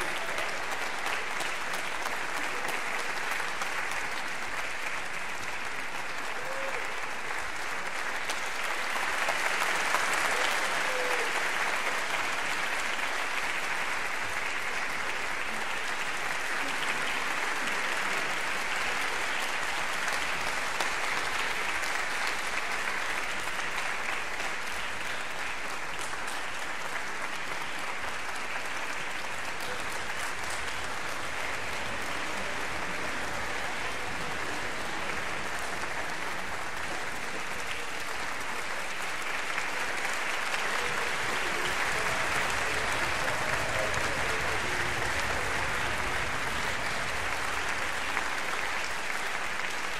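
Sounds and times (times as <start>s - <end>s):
audience applauding: 0.0s - 49.9s.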